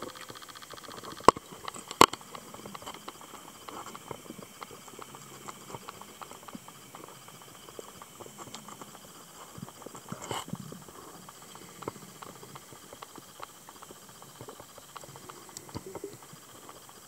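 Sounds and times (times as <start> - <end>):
underwater crackling clicks: 0.0 - 17.0.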